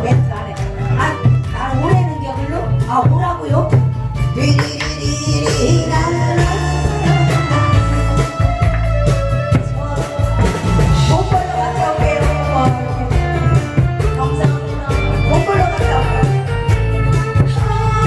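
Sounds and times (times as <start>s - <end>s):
trot music with steady beat: 0.0s - 18.0s.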